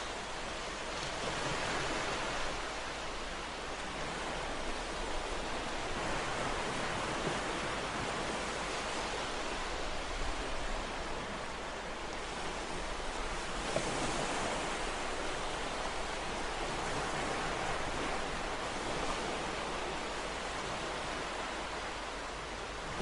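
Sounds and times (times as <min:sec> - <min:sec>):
ocean waves washing on shore: 0:00.0 - 0:23.0.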